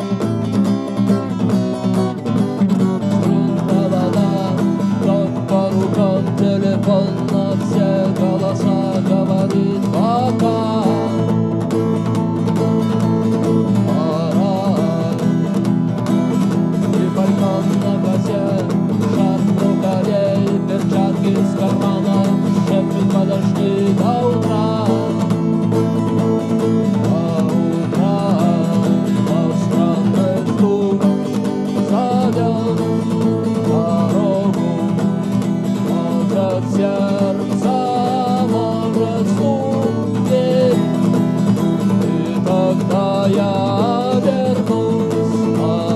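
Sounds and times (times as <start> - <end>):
instrumental guitar music: 0.0 - 45.9.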